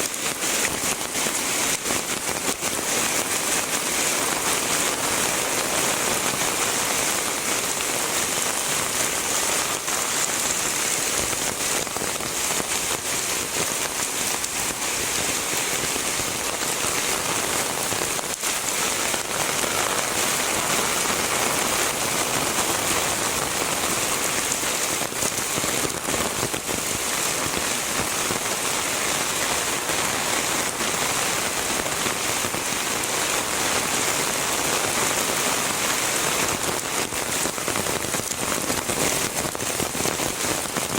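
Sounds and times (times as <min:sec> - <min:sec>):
heavy rain: 0:00.0 - 0:40.9
raindrops striking hard surfaces: 0:00.0 - 0:40.9.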